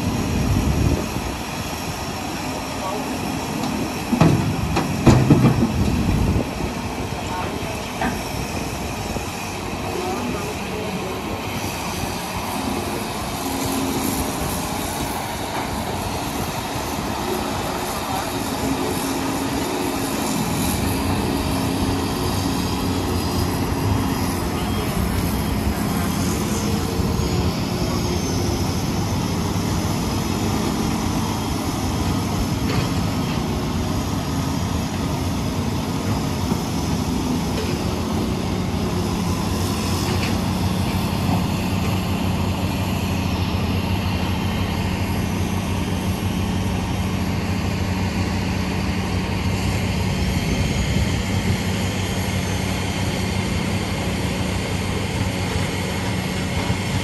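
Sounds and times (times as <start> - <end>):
heavy diesel engines droning: 0.0 - 57.0.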